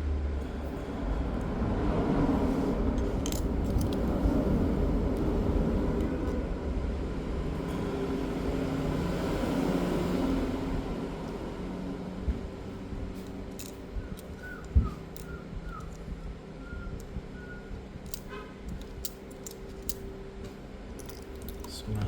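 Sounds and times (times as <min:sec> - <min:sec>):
low motor rumble: 0:00.0 - 0:22.0.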